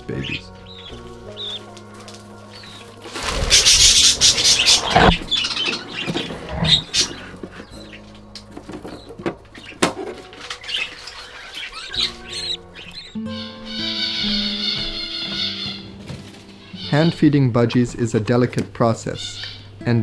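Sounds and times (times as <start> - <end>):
budgerigar chicks squeaking: 0.0 - 20.0.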